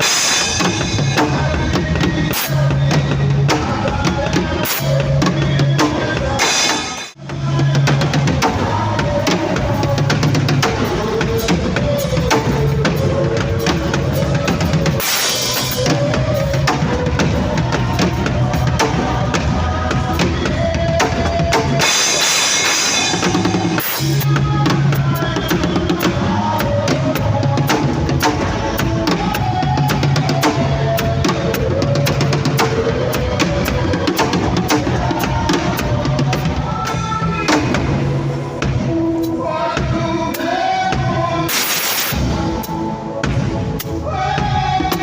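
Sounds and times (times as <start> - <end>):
bass line: 0.0 - 41.5
drum kit playing: 0.0 - 45.0.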